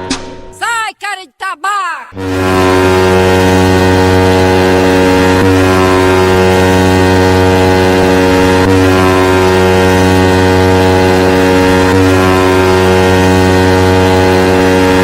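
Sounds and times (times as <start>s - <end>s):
buzzy electronic bass tone: 2.1s - 15.0s.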